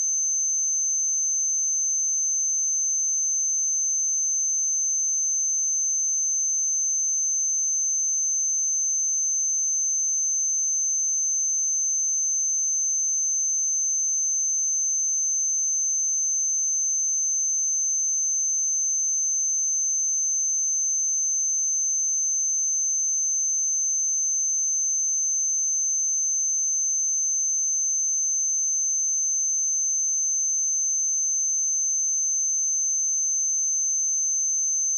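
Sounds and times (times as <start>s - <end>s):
high-pitched sine-wave test tone: 0.0s - 34.9s.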